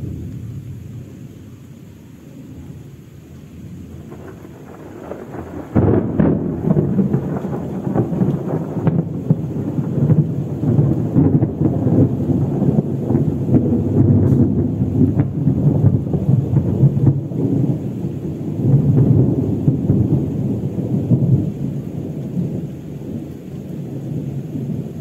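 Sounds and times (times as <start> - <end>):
thunder rumbling: 0.0 - 25.0.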